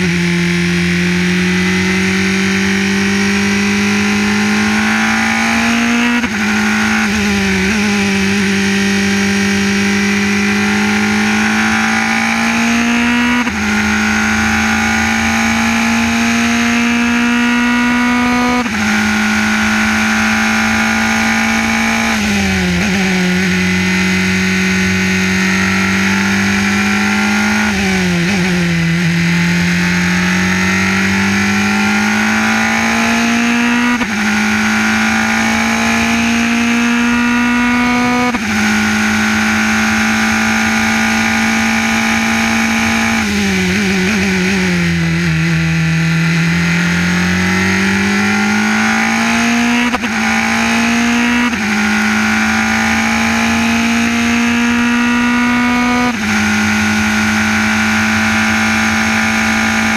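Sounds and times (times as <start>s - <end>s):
race car engine at full effort: 0.0s - 59.9s.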